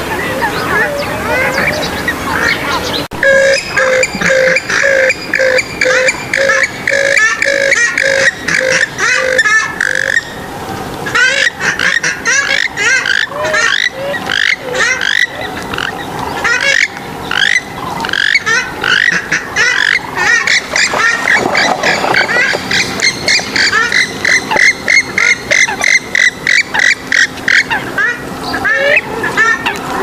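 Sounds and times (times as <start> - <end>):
waterbirds calling: 0.0 - 30.0.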